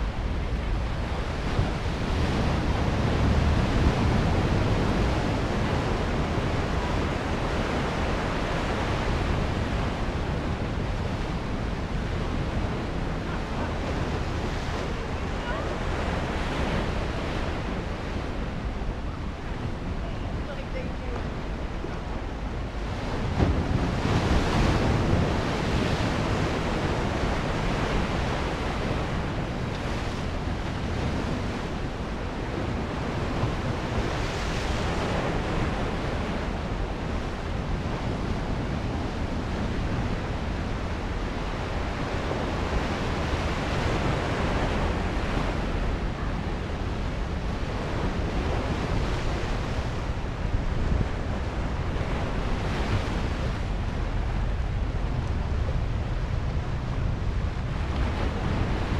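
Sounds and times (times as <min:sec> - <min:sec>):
wind rumble on microphone: 0:00.0 - 0:58.9.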